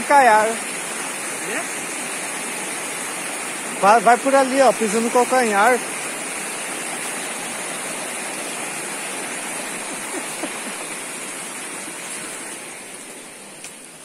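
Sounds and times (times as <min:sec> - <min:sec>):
waterfall rushing over rock: 0:00.0 - 0:14.0.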